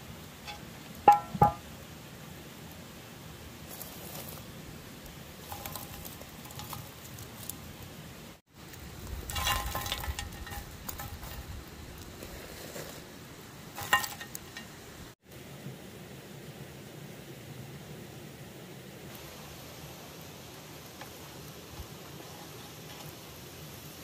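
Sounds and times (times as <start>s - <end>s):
burning charcoal popping: 0.0s - 15.2s, 19.0s - 24.0s
sizzling and crackling pot: 0.0s - 24.0s.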